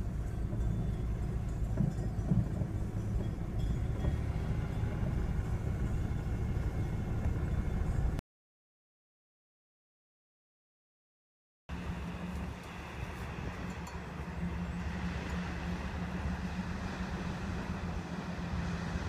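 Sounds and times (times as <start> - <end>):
car rumbling at walking pace: 0.0 - 8.2, 11.7 - 19.0.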